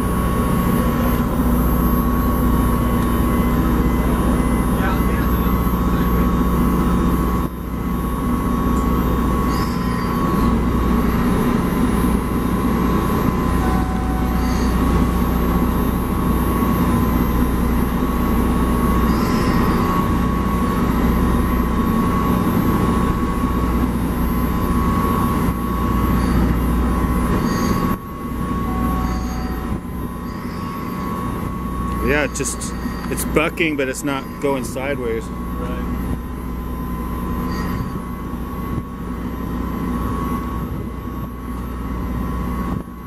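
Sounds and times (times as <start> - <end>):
boat machinery droning: 0.0 - 43.0
constant higher hum: 0.0 - 43.0.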